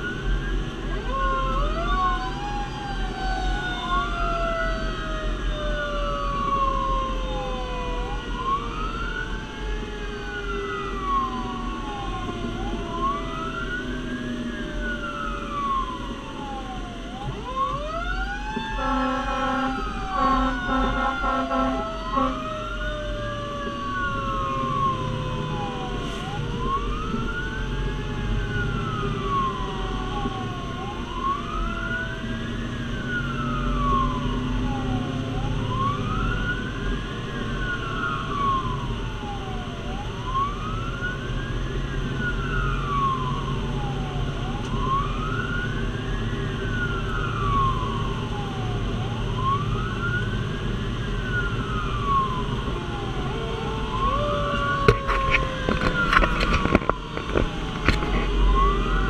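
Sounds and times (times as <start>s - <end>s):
engine rumble: 0.0s - 59.0s
fire engine siren wailing: 0.0s - 59.0s.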